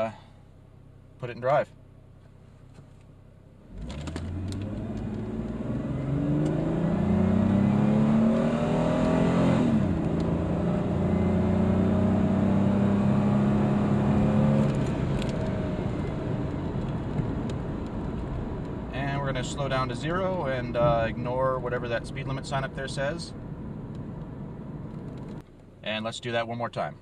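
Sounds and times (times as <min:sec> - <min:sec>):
car engine accelerating: 0:03.6 - 0:25.4.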